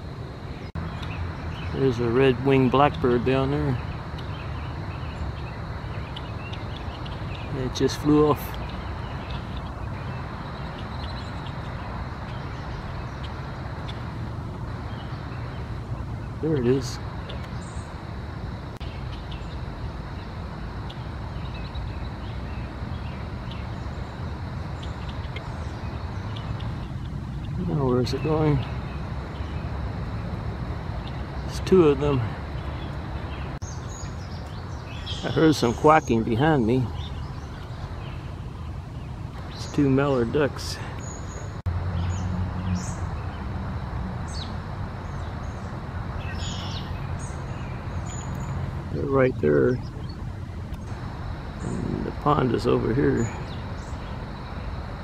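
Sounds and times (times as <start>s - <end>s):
low outdoor rumble: 0.0s - 55.0s
blackbird chirps: 0.5s - 18.0s, 18.8s - 29.8s, 30.9s - 43.5s, 44.2s - 54.8s.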